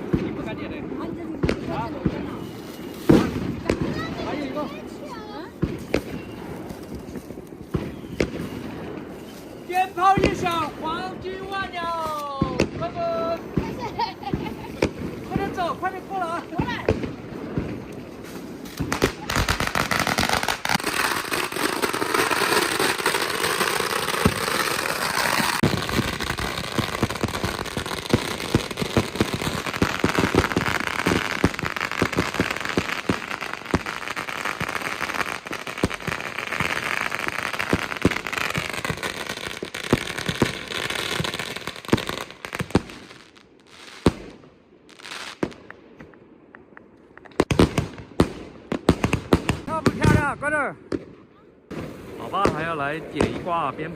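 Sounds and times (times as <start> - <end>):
fireworks launching and banging: 0.0 - 53.9.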